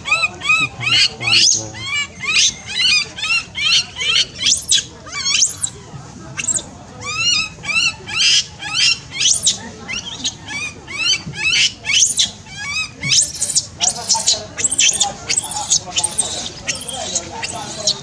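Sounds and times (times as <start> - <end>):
baby monkey screaming: 0.0 - 5.8, 6.4 - 18.0.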